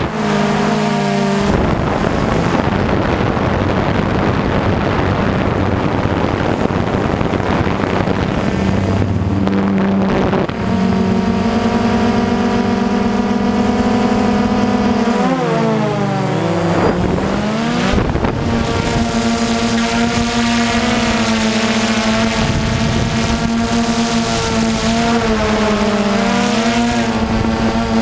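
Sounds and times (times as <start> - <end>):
drone motors whining: 0.0 - 28.0
wind noise: 0.0 - 28.0.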